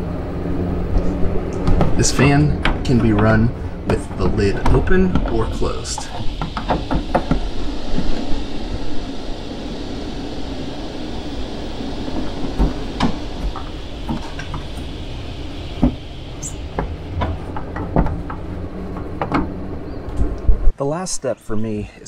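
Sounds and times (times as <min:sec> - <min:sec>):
roof vent fan whirring: 0:00.0 - 0:21.0.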